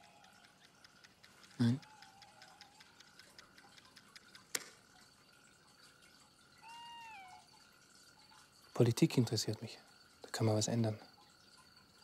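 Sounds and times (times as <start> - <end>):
small ticks: 0.0 - 12.0.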